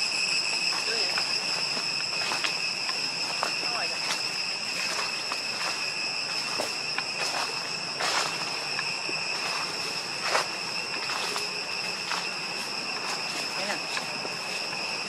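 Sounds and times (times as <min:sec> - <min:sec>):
insects droning: 0:00.0 - 0:15.0
footsteps crunching dry leaves: 0:00.2 - 0:15.0.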